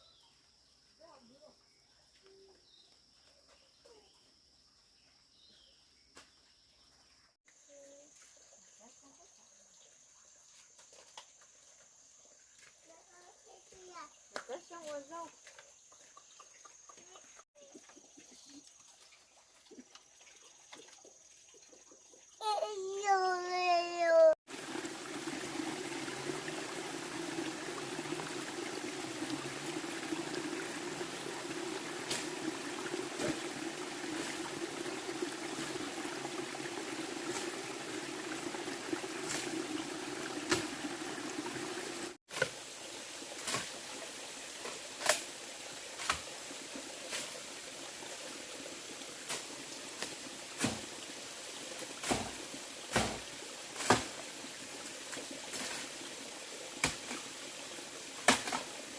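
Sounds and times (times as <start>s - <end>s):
water running and trickling: 8.1s - 58.9s.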